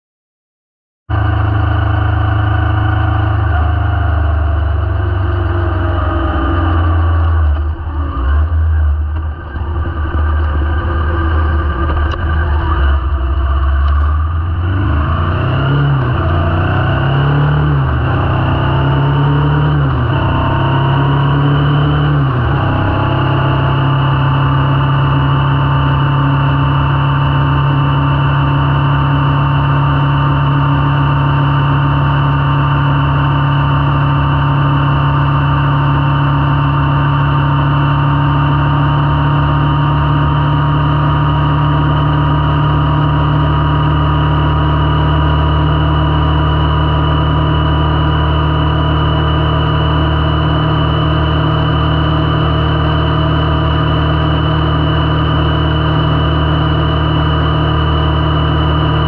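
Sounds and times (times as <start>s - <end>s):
motorcycle engine accelerating: 1.1s - 59.0s.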